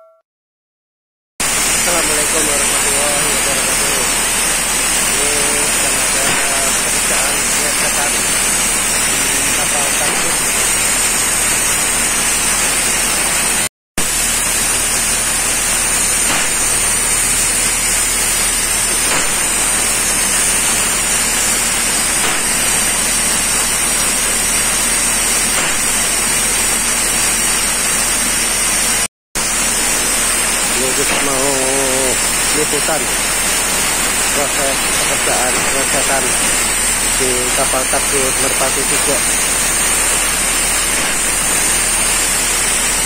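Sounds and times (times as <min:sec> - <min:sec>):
air compressor running: 0:01.4 - 0:43.0
compressed air hiss: 0:01.5 - 0:27.5, 0:29.4 - 0:43.0.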